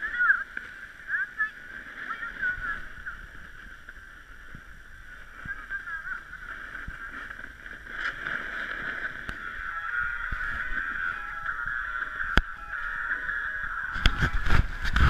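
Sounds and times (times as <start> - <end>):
snowboard scraping over snow: 0.0 - 15.0.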